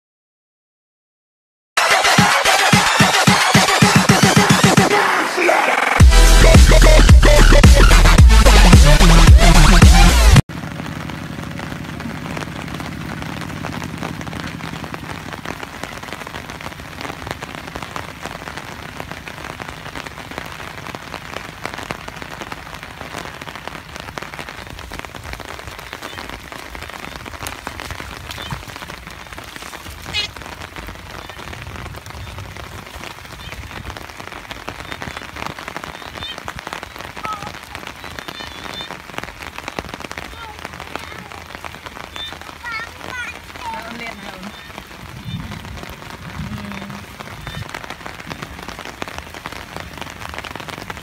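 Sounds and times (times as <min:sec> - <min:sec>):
steady rain on a field: 0:09.4 - 0:51.0.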